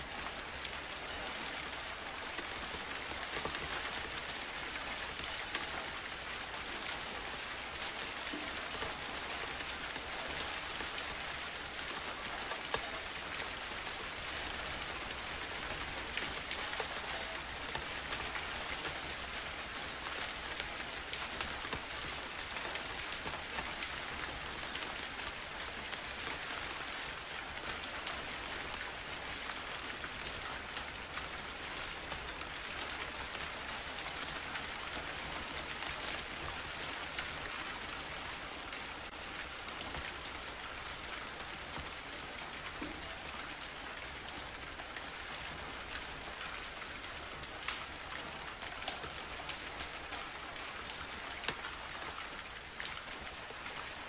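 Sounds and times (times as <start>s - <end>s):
rain falling into puddles: 0.0s - 54.0s.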